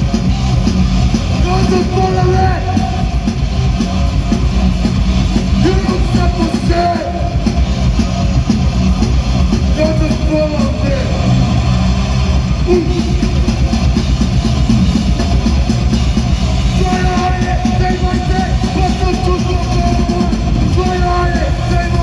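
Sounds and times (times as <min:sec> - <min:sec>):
rock band playing live: 0:00.0 - 0:22.0.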